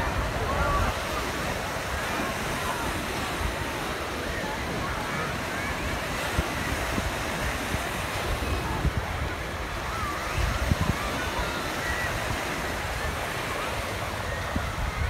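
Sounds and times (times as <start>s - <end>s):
chatter of distant voices: 0.0s - 15.0s
children: 0.0s - 15.0s
small waves washing onto sand: 0.0s - 15.0s
wind buffeting microphone: 0.0s - 15.0s.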